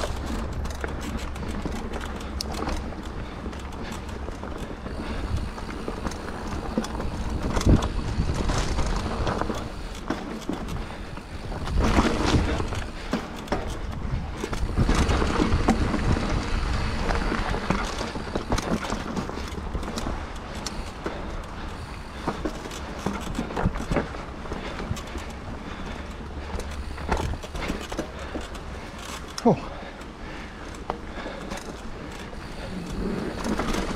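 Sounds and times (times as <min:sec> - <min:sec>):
bike rattling over bumps: 0:00.0 - 0:33.9
bike tyres rolling on dirt: 0:00.0 - 0:33.9.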